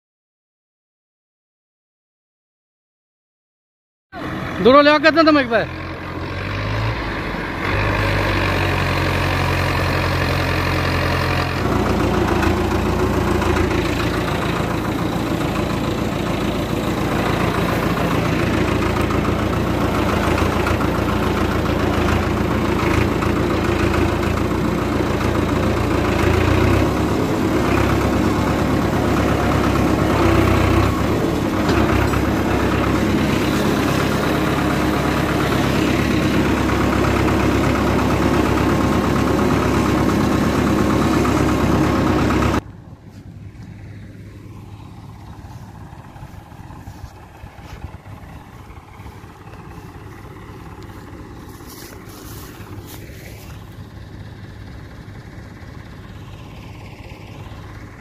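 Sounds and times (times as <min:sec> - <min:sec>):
tractor engine running: 0:04.2 - 0:58.0.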